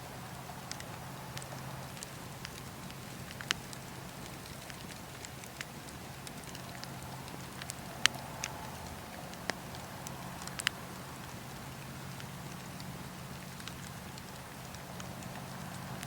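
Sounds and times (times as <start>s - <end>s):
campfire crackling: 0.0s - 16.0s
fire snapping: 0.1s - 16.0s.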